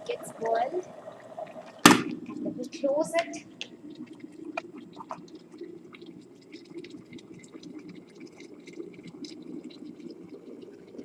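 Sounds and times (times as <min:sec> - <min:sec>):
water boiling in a kettle: 0:00.0 - 0:11.0.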